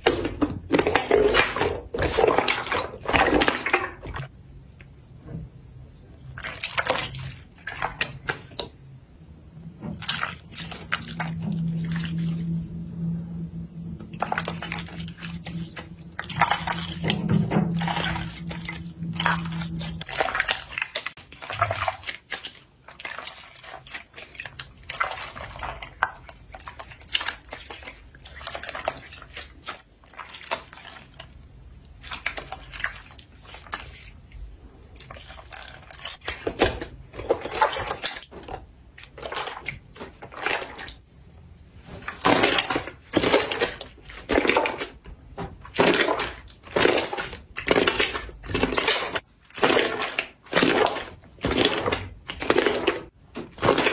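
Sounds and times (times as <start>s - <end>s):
slime squelching and crackling: 0.0s - 5.3s, 6.0s - 8.9s, 9.7s - 41.1s, 41.7s - 53.9s.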